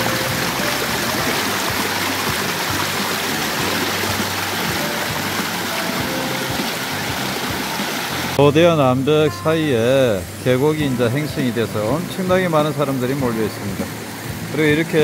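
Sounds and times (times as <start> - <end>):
mountain stream rushing over rocks: 0.0 - 15.0.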